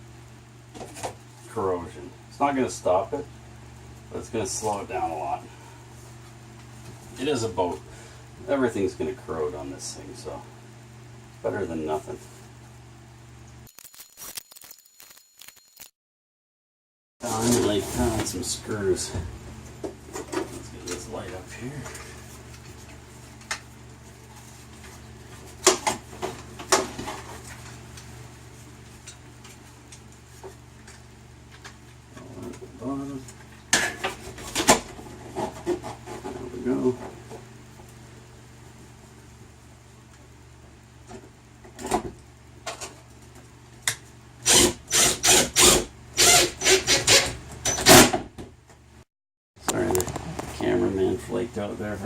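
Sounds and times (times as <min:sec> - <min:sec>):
steady low hum: 0:00.0 - 0:13.7, 0:17.2 - 0:47.0.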